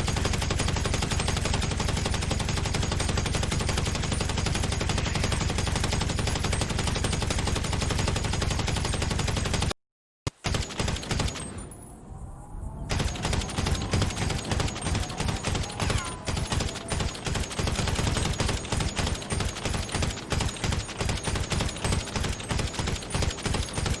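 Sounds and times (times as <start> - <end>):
assault rifle firing bursts: 0.0 - 9.7, 12.9 - 24.0.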